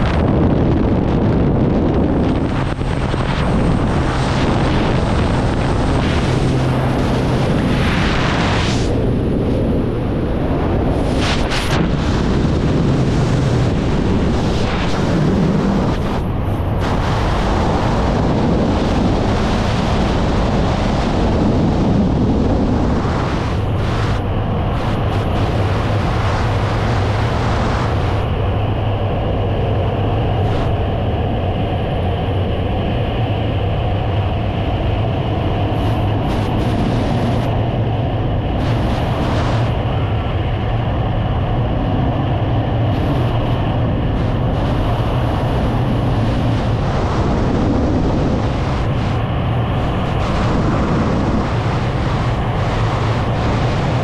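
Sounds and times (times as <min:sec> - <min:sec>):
airplane propeller and engine: 0:00.0 - 0:54.0
wind buffeting microphone: 0:00.0 - 0:54.0.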